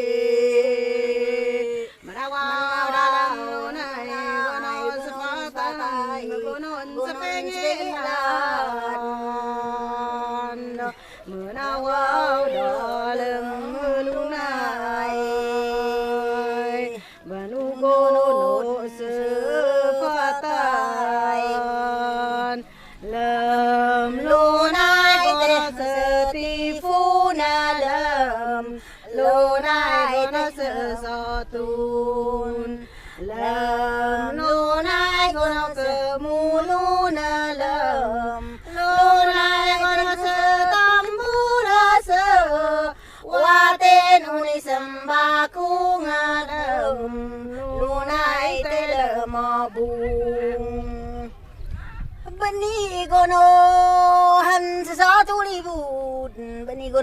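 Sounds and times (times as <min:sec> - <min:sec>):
person chanting unaccompanied: 0:00.0 - 0:57.0.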